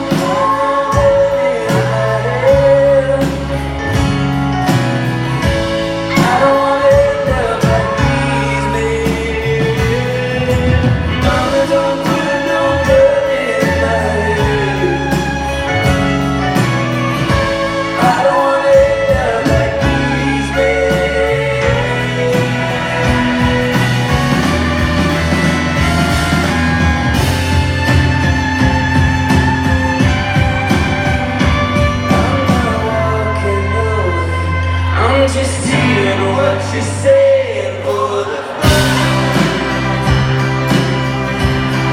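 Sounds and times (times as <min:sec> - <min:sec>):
steady drum beat: 0:00.0 - 0:33.4, 0:37.9 - 0:41.9
bass: 0:00.0 - 0:41.9
voices singing: 0:05.9 - 0:41.9.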